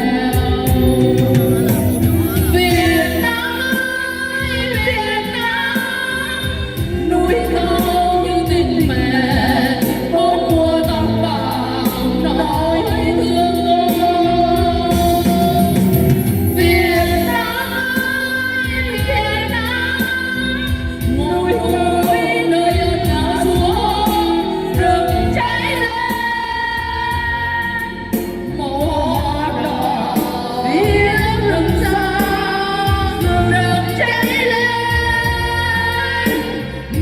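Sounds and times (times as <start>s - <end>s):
musical accompaniment: 0.0s - 37.0s
women singing: 0.0s - 37.0s.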